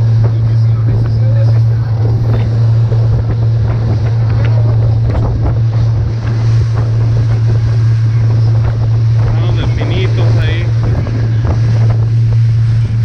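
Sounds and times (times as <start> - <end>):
boat engine humming: 0.0 - 13.0
water rushing around hull: 0.0 - 13.0
wind buffeting microphone: 0.0 - 13.0.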